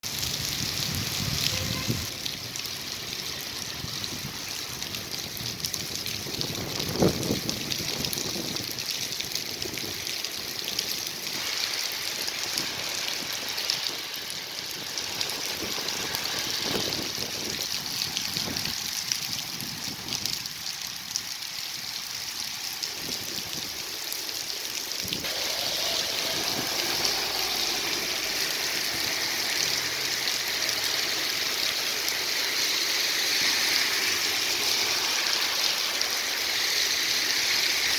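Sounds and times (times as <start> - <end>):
heavy rain falling: 0.0 - 37.9
rainwater trickling runoff: 0.0 - 37.9.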